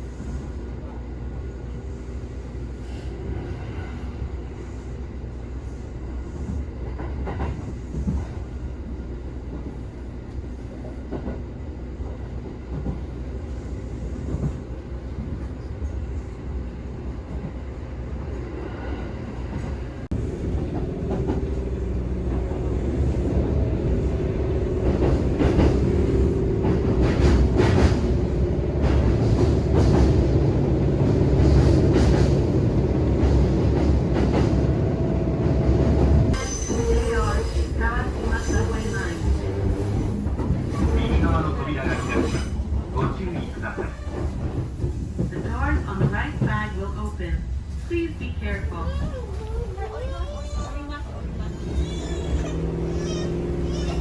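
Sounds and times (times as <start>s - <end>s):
train rumbling at speed: 0.0s - 54.0s
train rattling clatter: 2.8s - 54.0s.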